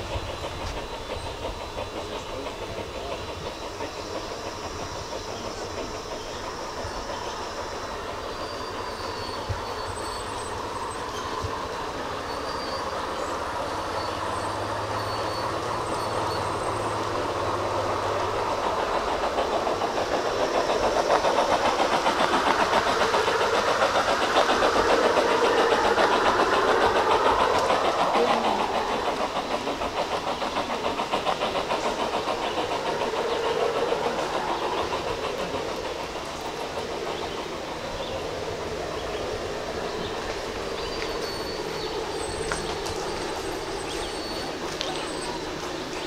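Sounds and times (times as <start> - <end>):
model train motor whir: 0.0 - 38.3
train wheels clattering on rails: 0.0 - 46.0.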